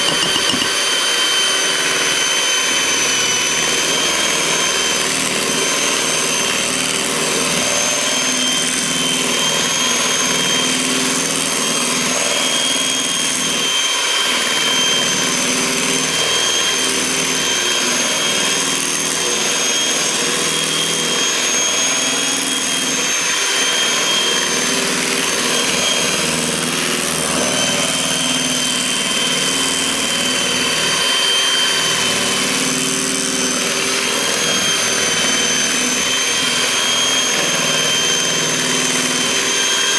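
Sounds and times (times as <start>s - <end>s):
kitchen appliance motor whining: 0.0s - 39.9s.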